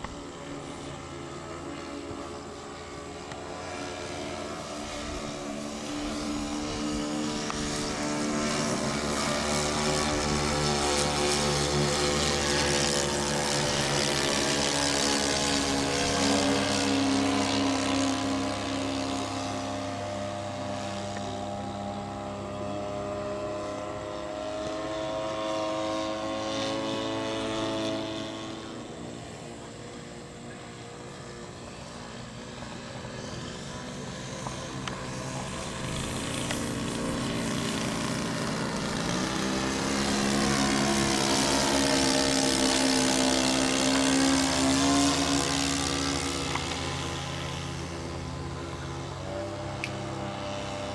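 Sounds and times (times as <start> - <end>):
model airplane engine droning: 0.0 - 50.9.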